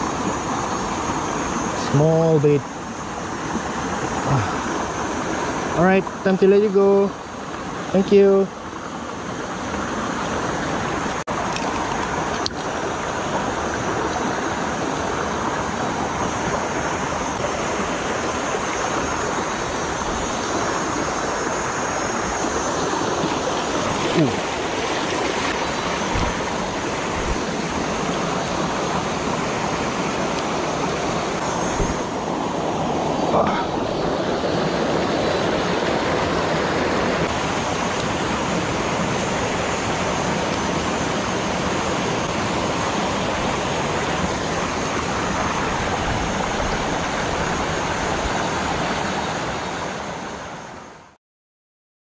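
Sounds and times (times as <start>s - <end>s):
water rushing over rocky cascades: 0.0s - 51.1s.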